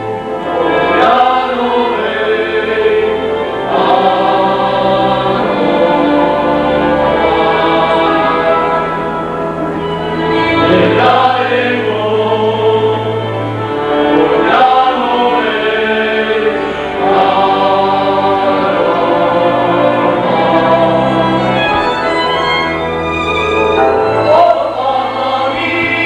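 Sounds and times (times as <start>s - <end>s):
folk string band: 0.0s - 26.0s
men singing together: 0.5s - 8.7s, 10.6s - 22.0s, 24.2s - 26.0s.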